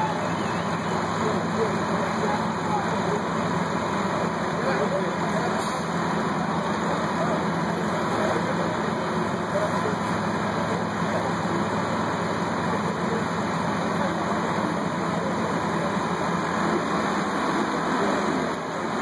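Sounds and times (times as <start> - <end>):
fire engines running: 0.0 - 19.0.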